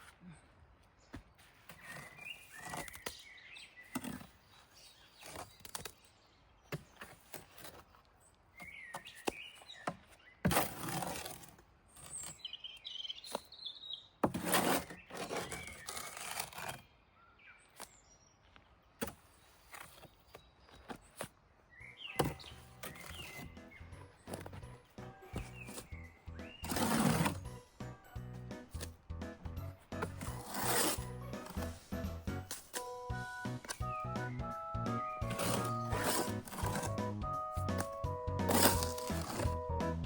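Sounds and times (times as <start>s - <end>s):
small birds chirping: 0.1s - 10.5s, 11.9s - 14.2s, 14.8s - 27.6s, 31.2s - 39.8s.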